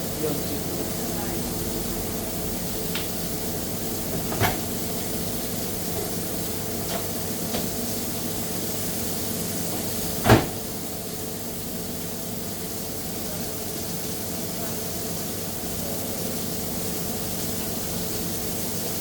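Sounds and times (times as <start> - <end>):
kitchen hum and hiss: 0.0 - 19.0.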